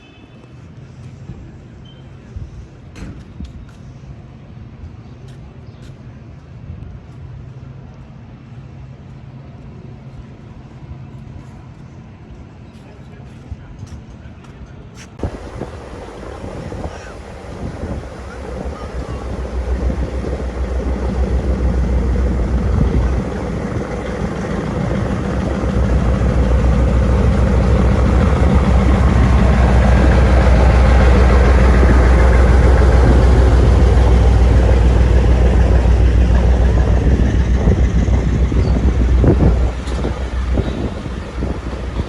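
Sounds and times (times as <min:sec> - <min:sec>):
vehicle engine and road noise: 0:02.9 - 0:42.0.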